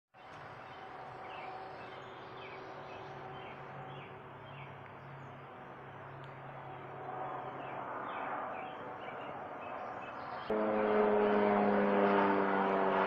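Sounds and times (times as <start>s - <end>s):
low hum: 0.3s - 13.0s.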